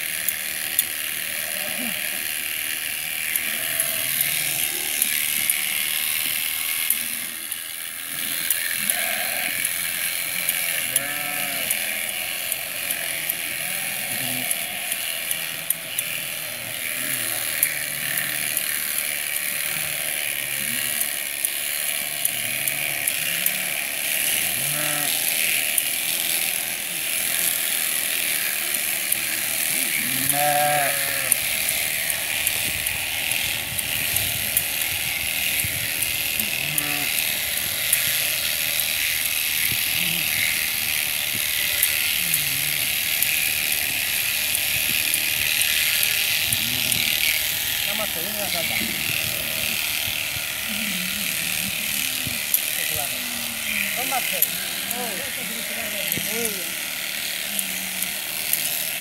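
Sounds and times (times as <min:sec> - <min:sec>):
electric shears buzzing: 0:00.0 - 0:59.0
shears clicking: 0:00.0 - 0:59.0
sheep bleating: 0:00.2 - 0:07.5, 0:08.1 - 0:59.0.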